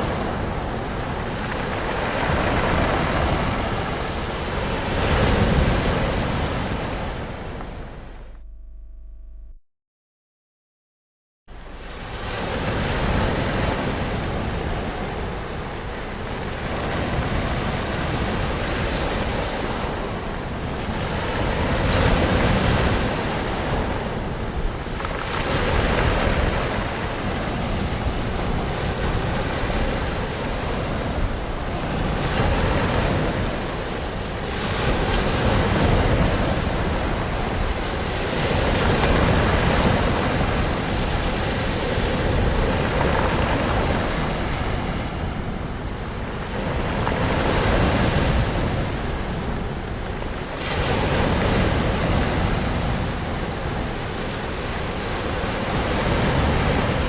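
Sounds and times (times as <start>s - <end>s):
ocean waves breaking: 0.0s - 8.4s, 11.5s - 57.0s.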